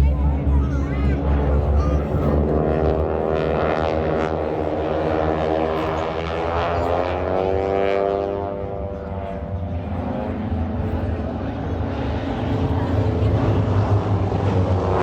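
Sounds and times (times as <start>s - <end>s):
propeller airplane flying by: 0.0s - 15.0s.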